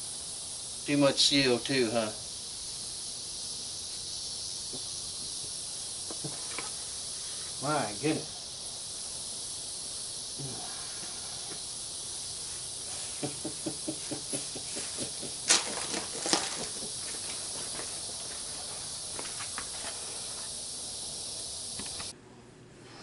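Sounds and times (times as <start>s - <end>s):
high outdoor background hiss: 0.0s - 22.7s.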